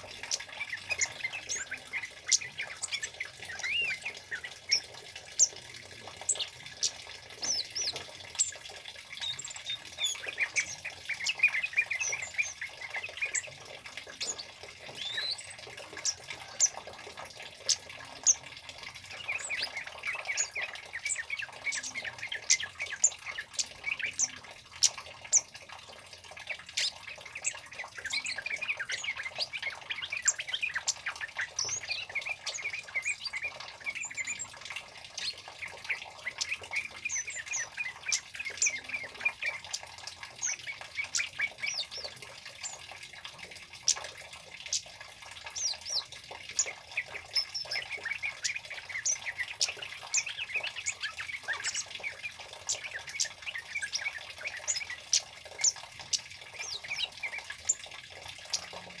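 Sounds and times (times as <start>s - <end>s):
bird chips and twitters: 0.0s - 43.0s, 43.7s - 59.0s.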